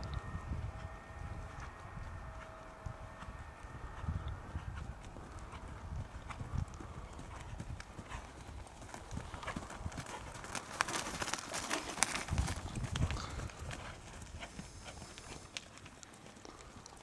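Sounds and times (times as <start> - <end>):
horse hoofbeats on arena surface: 0.8 - 17.0.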